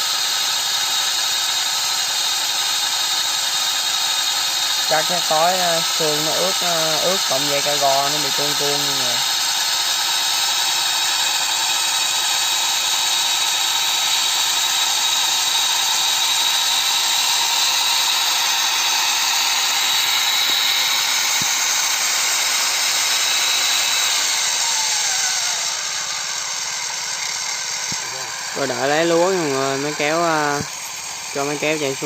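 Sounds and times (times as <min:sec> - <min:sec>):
combine harvester whining: 0:00.0 - 0:32.0.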